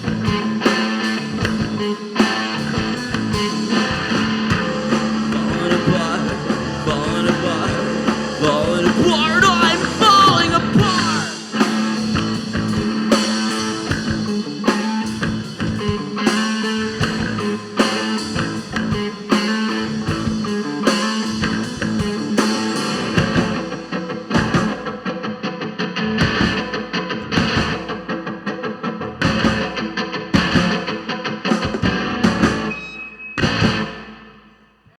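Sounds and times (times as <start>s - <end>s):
drums: 0.0s - 34.9s
rock band guitars: 0.0s - 34.9s.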